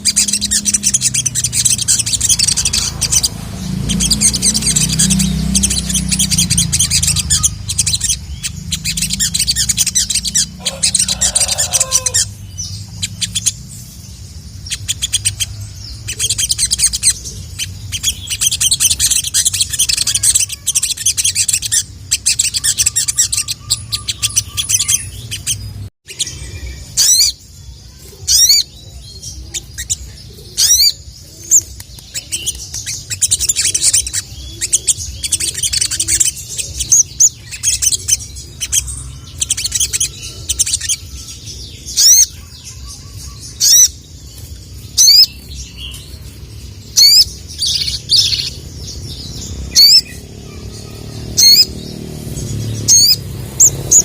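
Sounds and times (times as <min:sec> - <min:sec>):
sunbird chittering song: 0:00.0 - 0:54.0.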